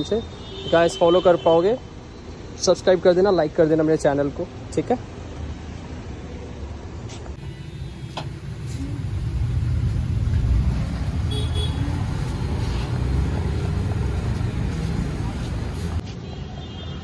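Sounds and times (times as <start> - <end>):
motor vehicle rumbling: 1.9 - 16.2.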